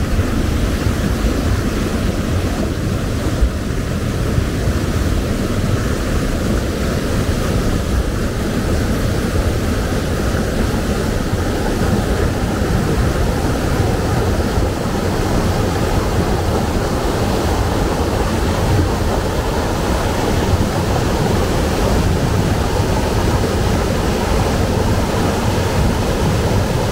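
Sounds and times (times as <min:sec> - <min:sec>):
mountain stream rushing over rocks: 0:00.0 - 0:26.9.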